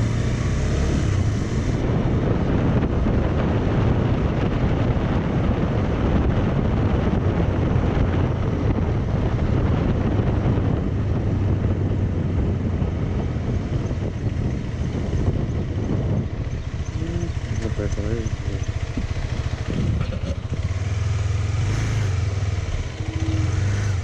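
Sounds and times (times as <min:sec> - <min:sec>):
low rumble of bike riding: 0:00.0 - 0:24.0
wind buffeting microphone: 0:00.0 - 0:24.0.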